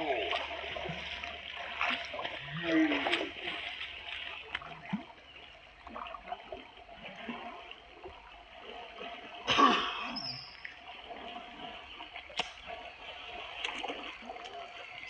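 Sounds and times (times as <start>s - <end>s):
water sloshing from wading: 0.0s - 15.0s.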